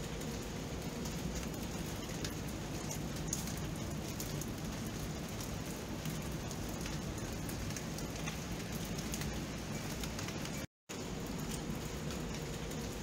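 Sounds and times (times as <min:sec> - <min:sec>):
rain drop ticks: 0:00.0 - 0:13.0
steady rain falling: 0:00.0 - 0:13.0.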